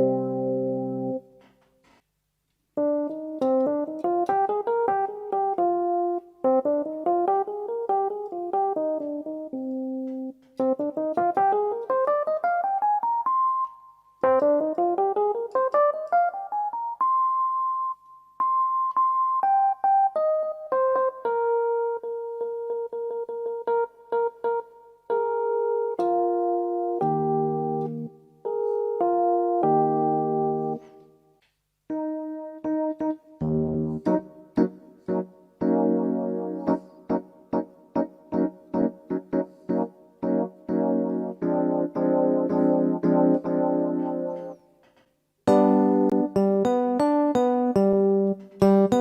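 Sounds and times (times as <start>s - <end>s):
electric piano playing: 0.0s - 1.5s, 2.8s - 31.3s, 31.9s - 44.8s, 45.4s - 49.0s.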